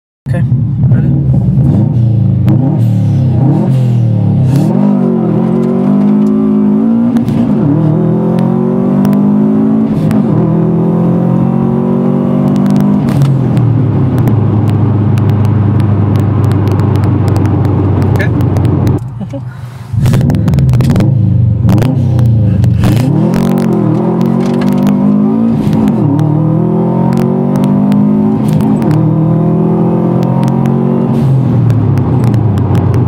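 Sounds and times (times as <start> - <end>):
car engine accelerating: 0.3 - 33.0.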